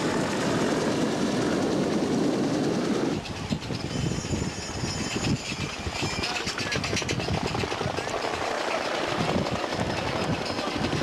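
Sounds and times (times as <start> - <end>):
powerboat engines running: 0.0 - 11.0.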